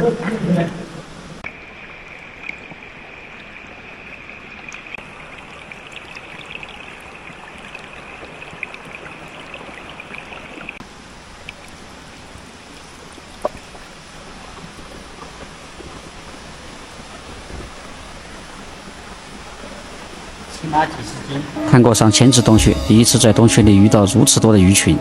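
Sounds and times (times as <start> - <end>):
cave stream running: 0.0 - 25.0.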